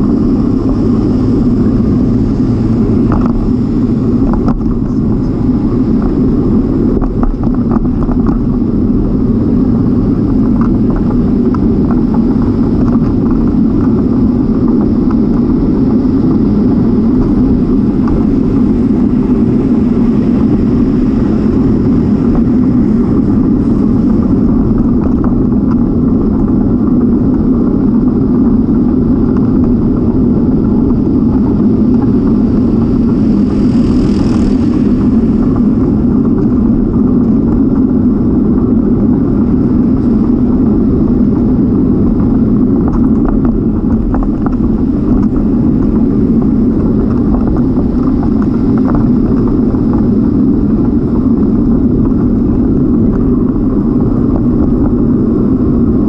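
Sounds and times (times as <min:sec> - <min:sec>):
bicycle tyres rolling on asphalt: 0:00.0 - 0:56.0
wind rumble on microphone: 0:00.0 - 0:56.0.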